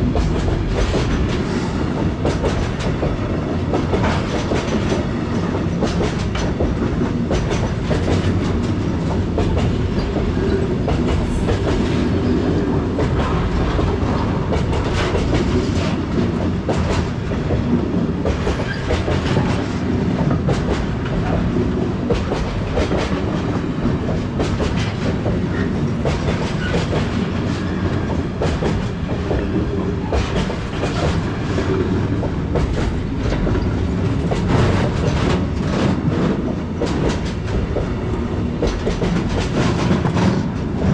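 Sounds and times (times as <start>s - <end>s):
train rumble: 0.0s - 40.9s
train wheels clacking on rail joints: 0.0s - 40.9s.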